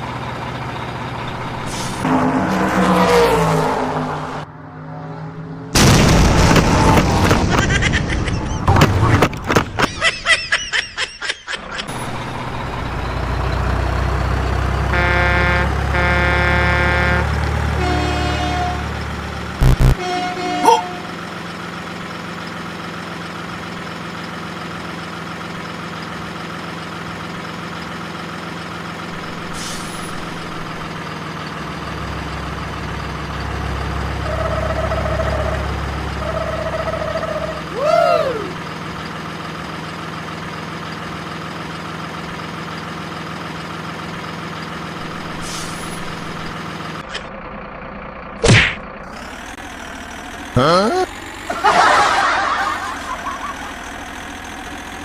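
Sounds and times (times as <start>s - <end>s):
truck engine idling: 0.0s - 2.0s, 11.6s - 55.0s.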